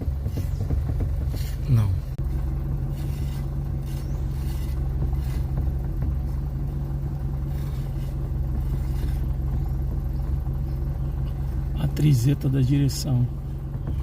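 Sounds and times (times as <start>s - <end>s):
car engine idling: 0.0s - 14.0s
faint steering knocks: 0.0s - 14.0s.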